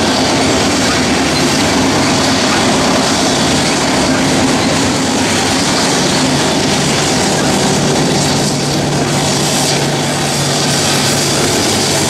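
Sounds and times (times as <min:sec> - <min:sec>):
freight train rolling past: 0:00.0 - 0:12.0
steel wheels on rails: 0:00.0 - 0:12.0.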